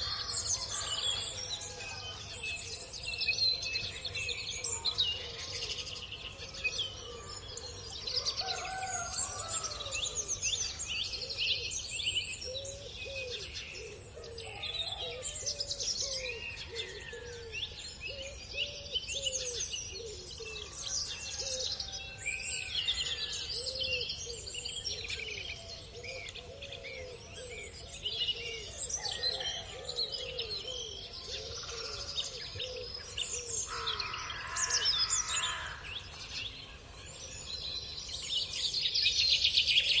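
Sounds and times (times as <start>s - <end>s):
small birds chirping and trilling: 0.0s - 40.0s.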